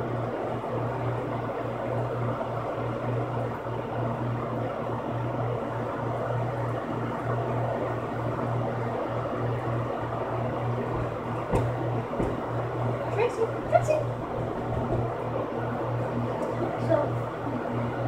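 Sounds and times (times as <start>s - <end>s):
box fan running: 0.0s - 18.0s.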